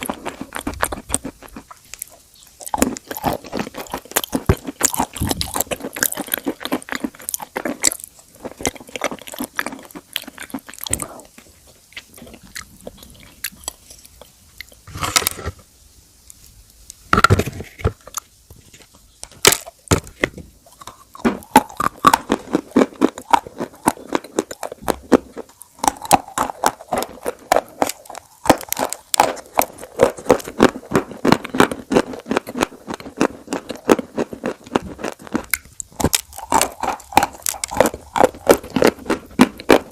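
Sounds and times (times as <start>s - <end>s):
crunchy food chewing: 0.0s - 15.6s, 17.2s - 39.9s.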